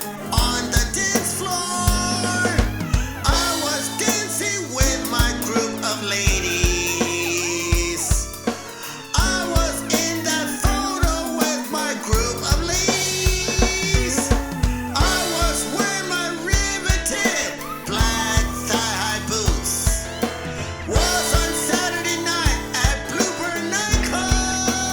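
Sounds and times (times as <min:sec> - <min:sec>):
person singing: 0:00.0 - 0:24.9
steady drum beat: 0:00.0 - 0:24.9.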